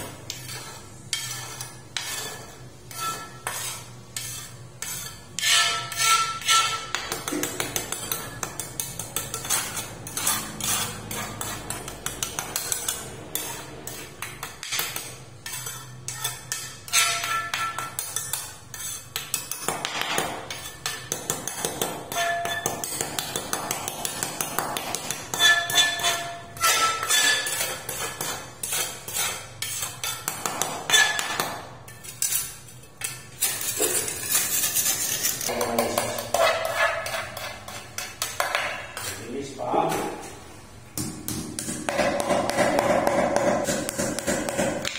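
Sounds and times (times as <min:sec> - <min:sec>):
trowel scraping on ceramic tiles: 0:00.0 - 0:40.4.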